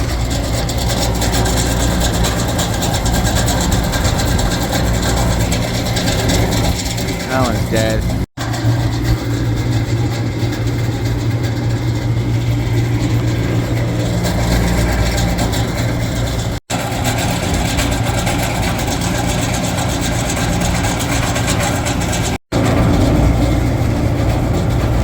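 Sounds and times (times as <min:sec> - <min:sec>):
refrigeration machine hum: 0:00.0 - 0:25.0.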